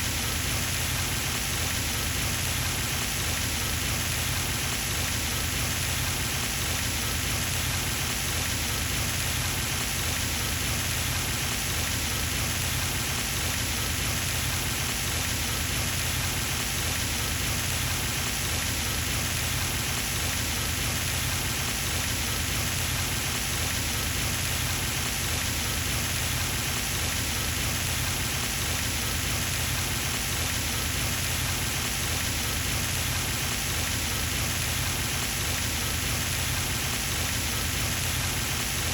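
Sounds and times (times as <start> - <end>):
fountain water splashing: 0.2 - 38.9.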